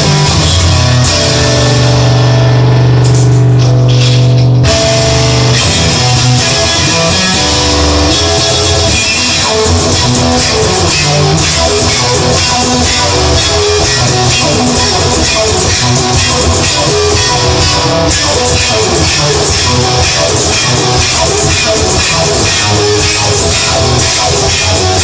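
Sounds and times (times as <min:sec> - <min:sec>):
instrumental rock music: 0:00.0 - 0:25.0.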